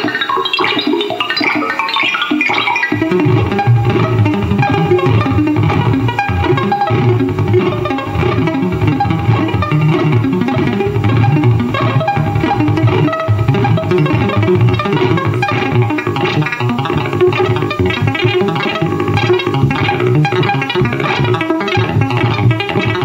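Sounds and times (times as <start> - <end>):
loud live music plucked notes: 0.0 - 23.0.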